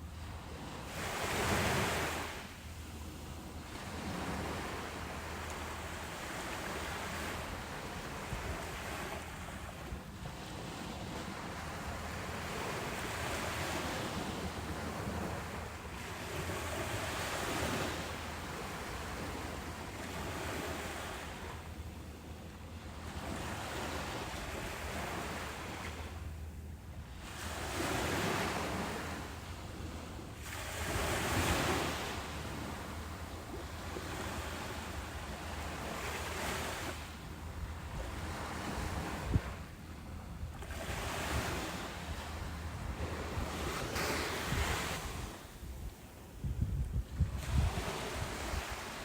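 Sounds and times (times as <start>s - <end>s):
waves breaking on beach: 0.0s - 46.4s, 47.0s - 49.0s.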